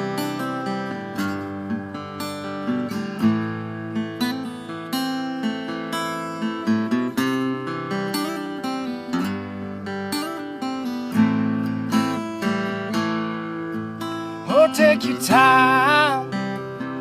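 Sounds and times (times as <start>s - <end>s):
acoustic guitar strummed and picked: 0.0s - 17.0s.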